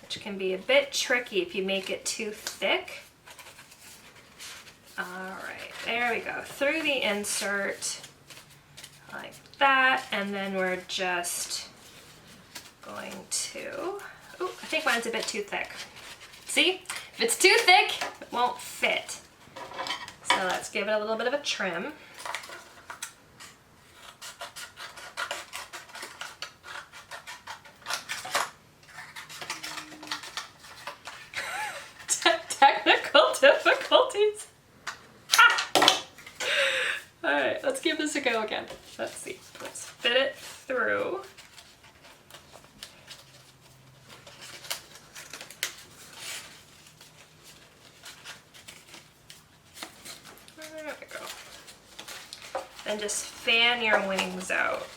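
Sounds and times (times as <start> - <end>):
cardstock rustling and crackling: 0.2 - 34.2, 37.4 - 54.9
paper handling: 1.1 - 19.5, 22.0 - 34.1, 37.6 - 54.9.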